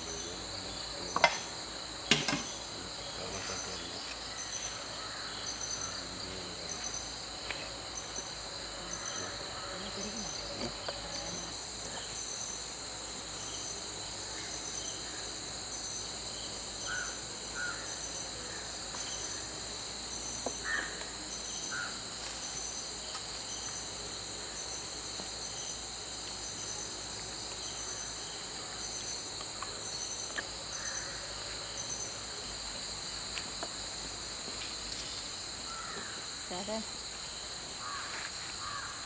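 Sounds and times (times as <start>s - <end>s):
insects chorus: 0.0s - 39.0s.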